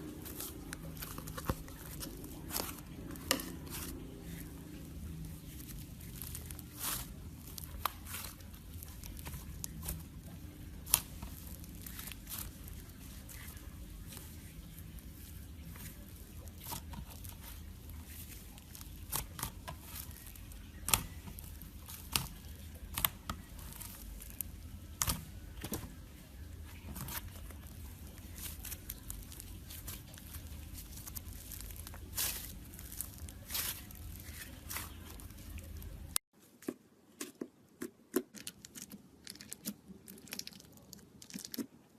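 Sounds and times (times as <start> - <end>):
soft crinkling: 0.0 - 37.4, 38.2 - 41.9.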